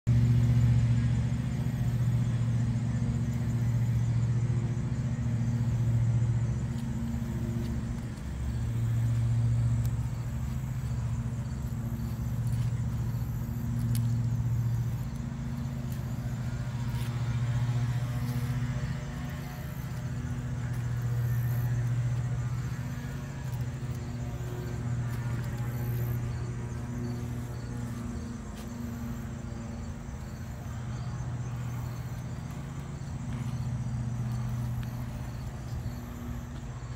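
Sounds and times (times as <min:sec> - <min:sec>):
low motor hum: 0:00.0 - 0:36.9.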